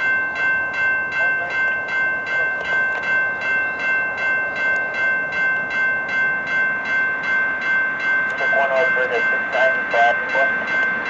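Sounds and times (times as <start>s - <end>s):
railroad crossing bell ringing: 0.0s - 11.0s.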